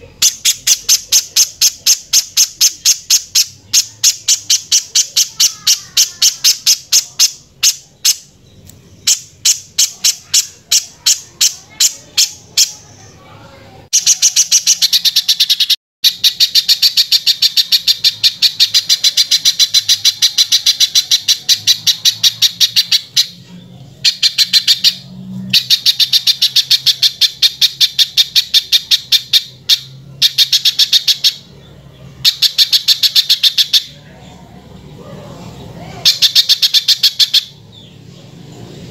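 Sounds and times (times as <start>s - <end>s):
bird singing harsh rapid notes: 0.0s - 34.9s, 35.5s - 38.9s.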